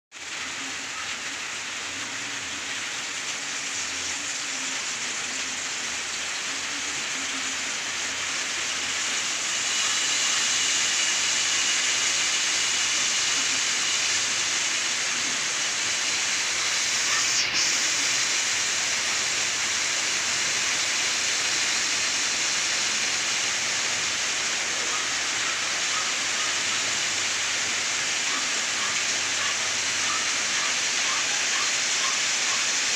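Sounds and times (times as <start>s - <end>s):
loud hissing noise: 0.1s - 32.9s.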